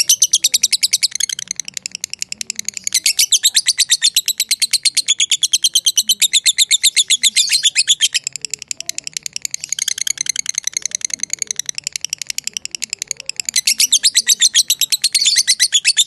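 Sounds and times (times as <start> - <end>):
lovebird chattering call: 0.0 - 16.0.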